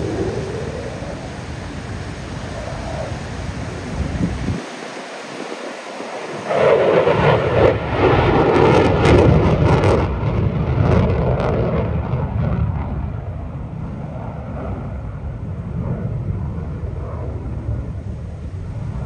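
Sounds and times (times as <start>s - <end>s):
fighter jet roaring with afterburner: 0.0s - 19.0s.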